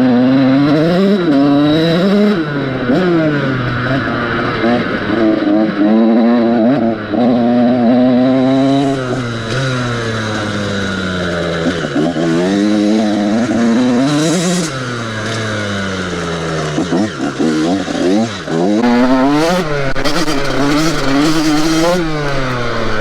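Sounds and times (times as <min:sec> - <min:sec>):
two-stroke motorcycle engine revving: 0:00.0 - 0:23.0.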